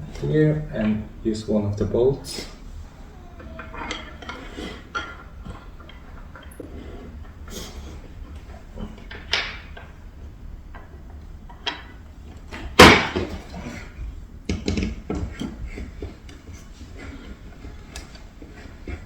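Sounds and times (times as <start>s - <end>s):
wooden chair parts knocking: 2.7s - 7.4s, 8.4s - 19.0s.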